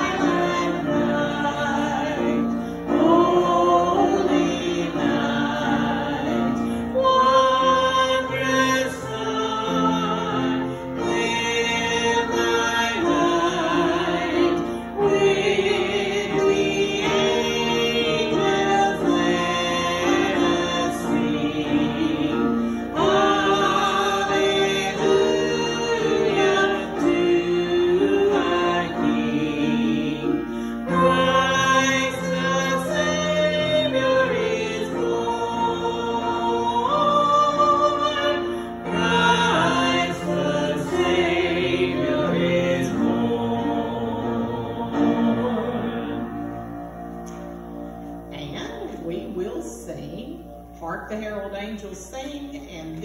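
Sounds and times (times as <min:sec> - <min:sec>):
choir singing a hymn: 0:00.0 - 0:50.5.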